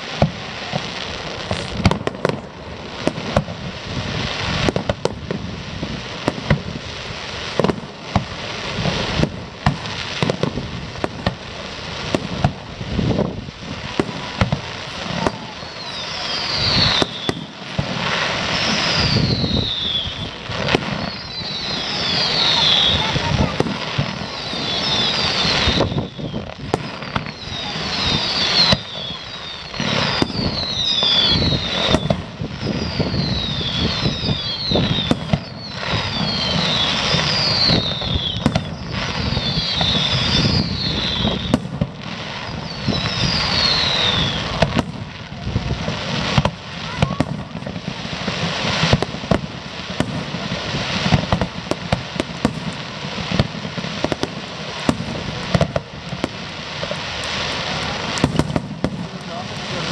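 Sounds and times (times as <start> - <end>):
fireworks bangs and crackling: 0.0 - 59.9
fireworks whistles falling in pitch: 0.0 - 59.9.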